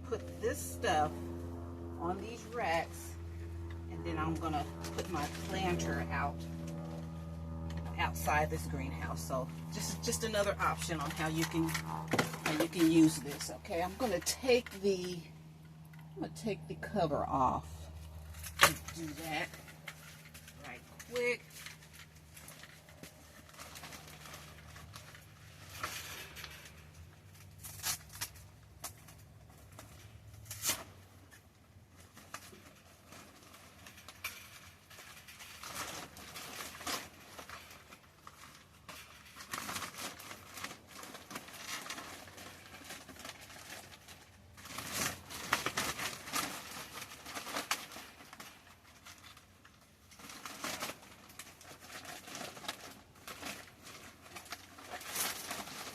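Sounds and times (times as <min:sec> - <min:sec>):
plastic sheet crinkling and rustling: 0:01.6 - 0:15.2, 0:17.9 - 0:55.9.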